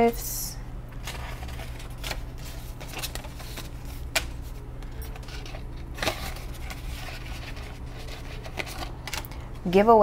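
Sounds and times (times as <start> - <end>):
low steady hum: 0.0 - 10.0
banknotes rustling: 1.0 - 10.0.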